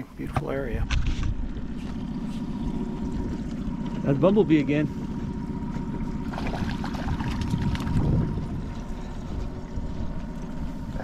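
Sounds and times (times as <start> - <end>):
outboard motor rumble: 0.0 - 11.0
water splashing against boat: 0.0 - 11.0.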